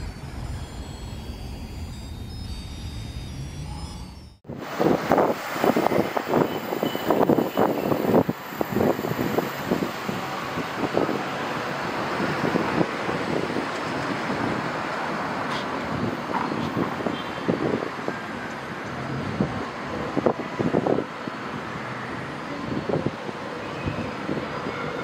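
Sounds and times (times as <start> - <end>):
road traffic rushing: 0.0 - 25.0.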